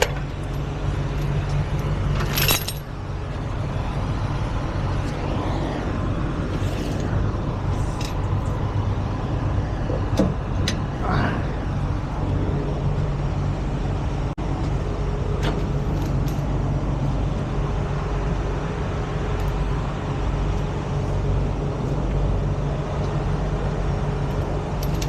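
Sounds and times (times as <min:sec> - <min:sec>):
truck diesel engine droning: 0:00.0 - 0:25.0.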